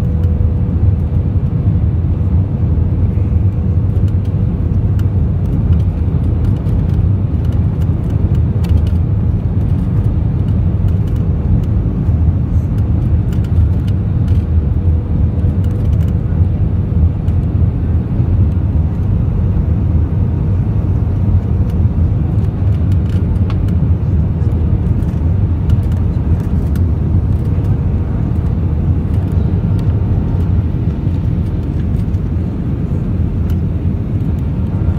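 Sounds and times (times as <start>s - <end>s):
engine and airflow rumble: 0.0s - 34.9s.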